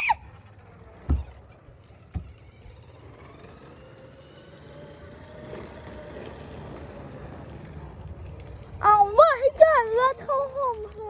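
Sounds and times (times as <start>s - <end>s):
electric motorbike motor whine: 0.0s - 11.0s.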